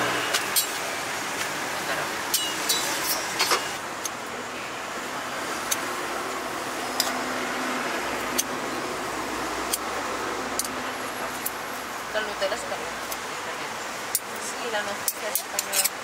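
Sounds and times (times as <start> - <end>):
city street traffic hum: 0.0 - 16.0.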